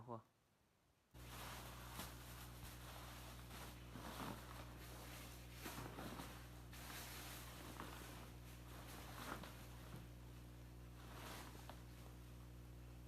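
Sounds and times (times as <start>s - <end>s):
steady low hum: 1.0s - 13.0s
faint rustling and handling: 1.2s - 12.5s.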